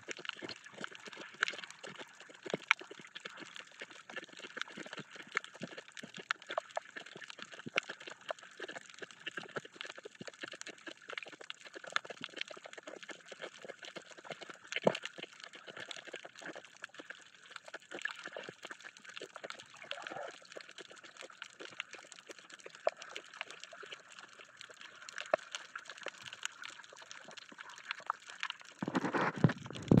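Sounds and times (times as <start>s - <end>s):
crackle of small clicks underwater: 0.0s - 30.0s.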